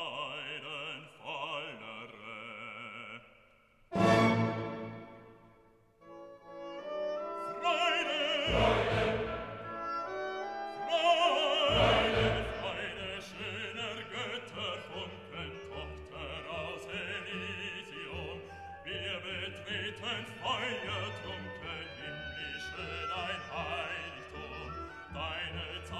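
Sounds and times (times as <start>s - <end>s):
operatic singing voice: 0.0s - 4.9s, 7.4s - 25.9s
orchestral music: 3.9s - 25.9s.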